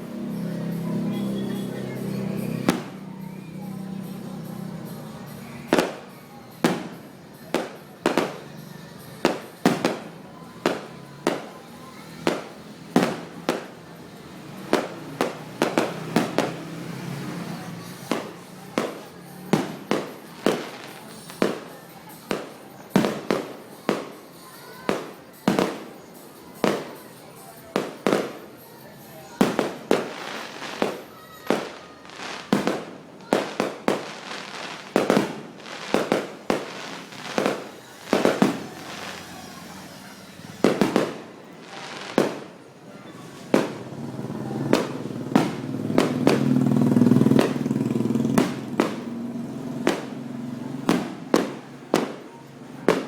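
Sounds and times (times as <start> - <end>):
fireworks and firecrackers banging: 0.0 - 53.0.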